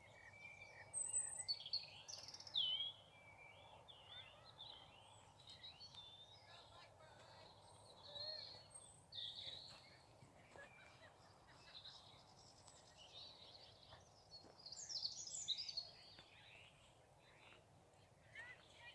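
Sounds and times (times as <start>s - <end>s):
faint songbirds chirping: 0.0s - 18.9s.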